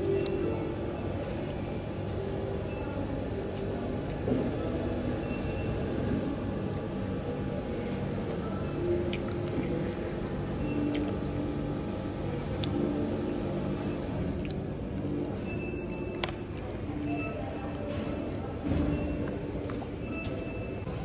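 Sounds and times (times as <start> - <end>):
cafe crowd hubbub: 0.0 - 21.0
faint background music: 0.0 - 21.0.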